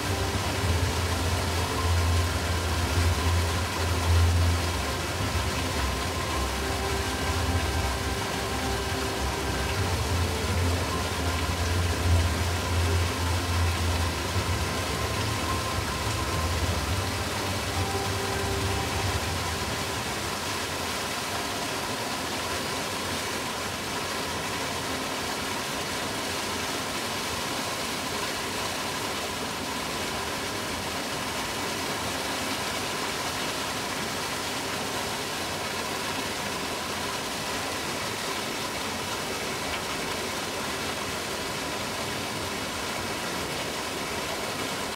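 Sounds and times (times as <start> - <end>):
rushing water: 0.0 - 44.9.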